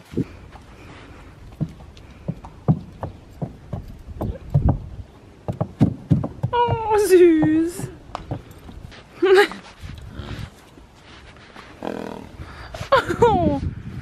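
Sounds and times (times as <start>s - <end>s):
horse hooves on wooden planks: 0.2s - 11.8s.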